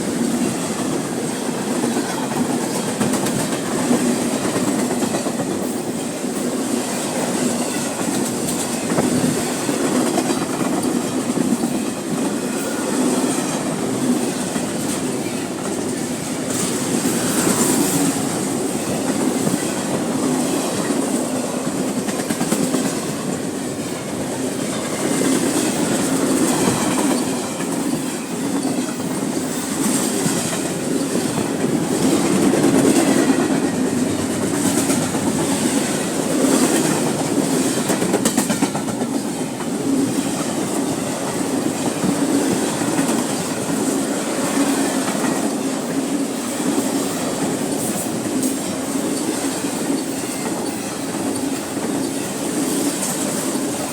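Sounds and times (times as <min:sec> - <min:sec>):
freight train cars rolling past: 0:00.0 - 0:53.9.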